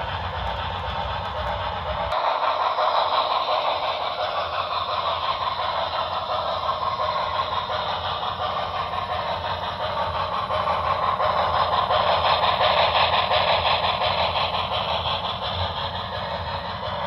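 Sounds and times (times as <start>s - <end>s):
model steam locomotive sound: 0.0s - 17.0s.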